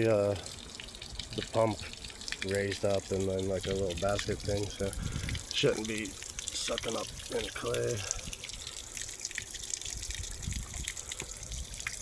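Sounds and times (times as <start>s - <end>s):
small waterfall splashing: 0.0s - 12.0s
water dripping: 0.0s - 12.0s.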